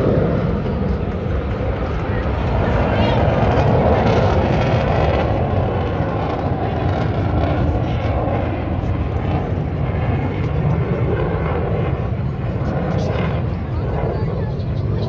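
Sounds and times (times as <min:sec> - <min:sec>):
jet engine roar overhead: 0:00.0 - 0:15.0.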